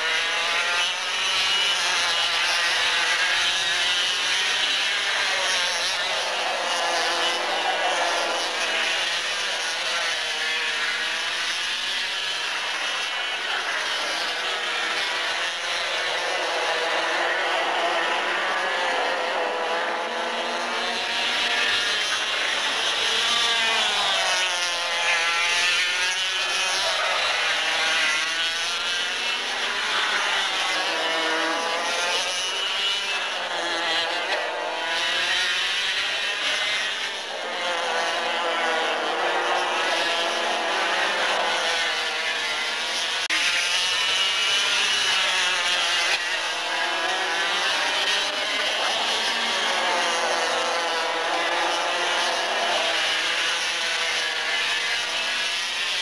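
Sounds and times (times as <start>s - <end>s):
kart engines revving: 0.0s - 56.0s.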